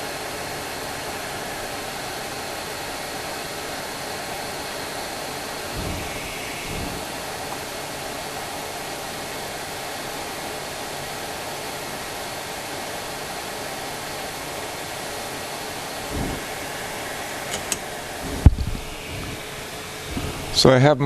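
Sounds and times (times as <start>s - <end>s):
hot air wand hissing: 0.0s - 20.8s.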